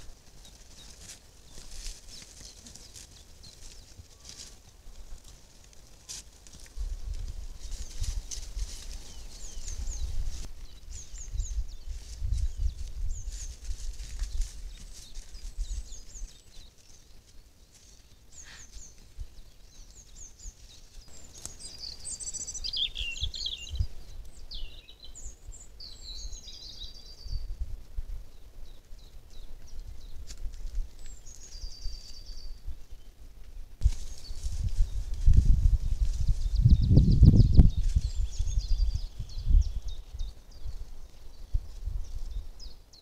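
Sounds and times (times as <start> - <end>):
songbirds chirping and trilling: 0.0 - 43.0.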